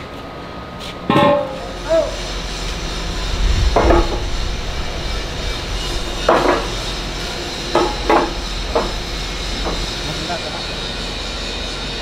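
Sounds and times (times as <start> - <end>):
low factory hum: 0.0 - 12.0
metal grating covers clanking: 1.1 - 12.0.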